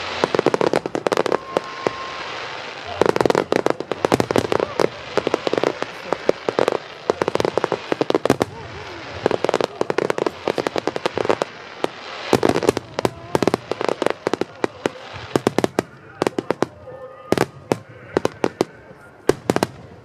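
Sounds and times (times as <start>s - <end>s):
fireworks bangs and cracks: 0.0s - 20.0s.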